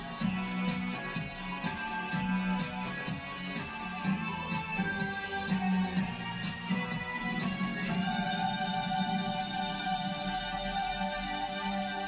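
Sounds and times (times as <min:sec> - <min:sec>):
recorded music from a stereo: 0:00.0 - 0:12.0.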